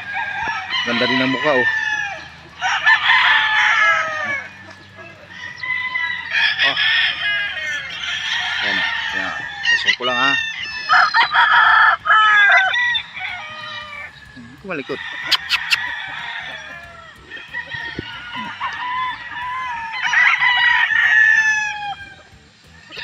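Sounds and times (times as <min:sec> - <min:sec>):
roosters crowing: 0:00.0 - 0:23.0.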